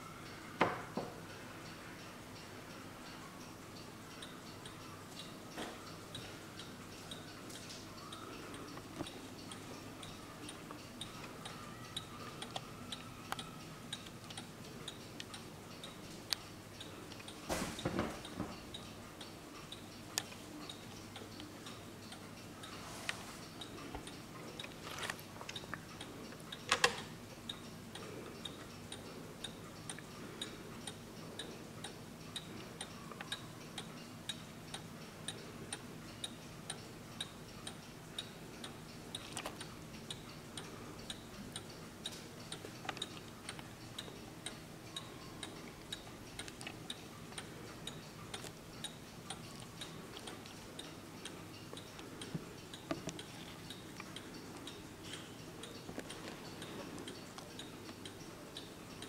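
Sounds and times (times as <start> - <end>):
mantel clock ticking: 0.0 - 59.0.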